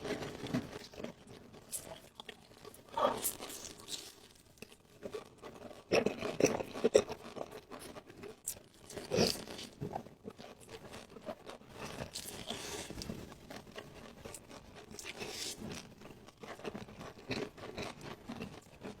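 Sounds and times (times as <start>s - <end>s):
crunchy bites and chewing: 0.0s - 19.0s.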